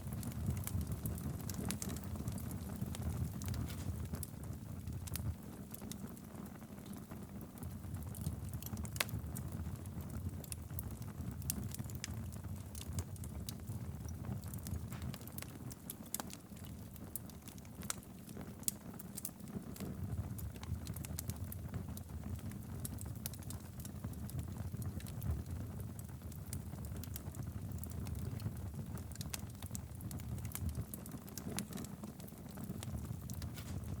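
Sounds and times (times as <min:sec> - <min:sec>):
fire crackling with pops: 0:00.0 - 0:34.0
low rumble of burning logs: 0:00.0 - 0:34.0.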